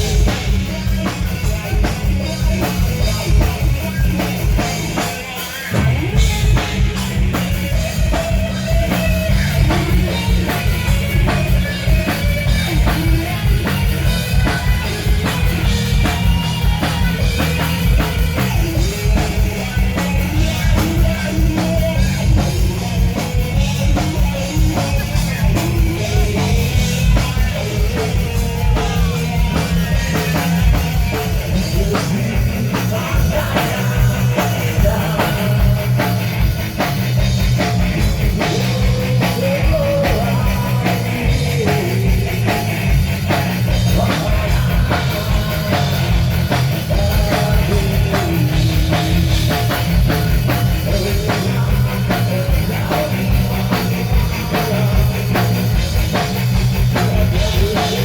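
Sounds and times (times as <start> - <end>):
pounding drum kit: 0.0 - 58.0
rock band playing live: 0.0 - 58.0
person singing: 8.0 - 37.0, 37.6 - 58.0.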